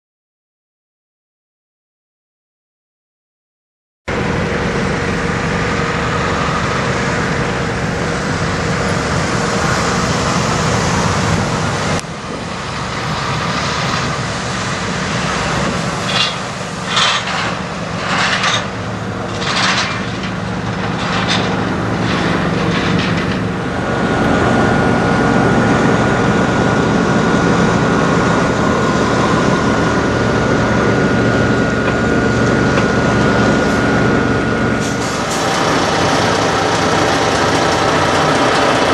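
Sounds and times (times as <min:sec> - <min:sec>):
diesel truck engine rumble: 0:04.1 - 0:38.9
steady high whine: 0:04.1 - 0:38.9.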